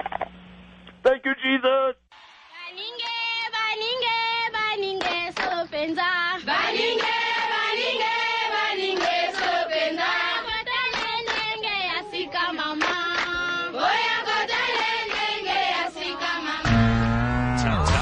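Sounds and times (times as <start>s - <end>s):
voices singing choral chant: 2.2s - 18.0s.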